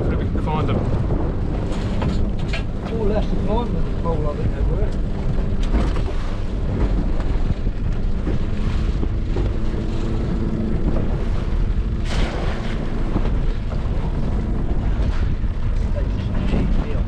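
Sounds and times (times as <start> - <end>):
outboard motor running: 0.0 - 17.0
wind rumble on microphone: 0.0 - 17.0.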